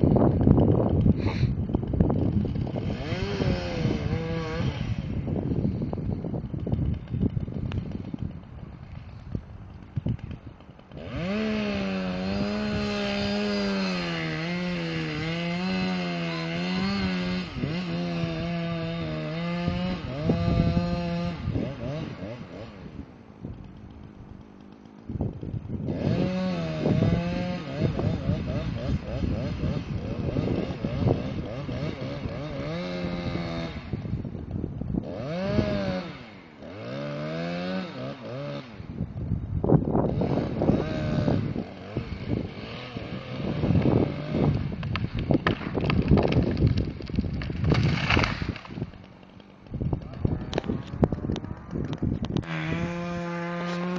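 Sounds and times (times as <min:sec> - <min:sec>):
chainsaw cutting a tree: 0:00.0 - 0:53.9.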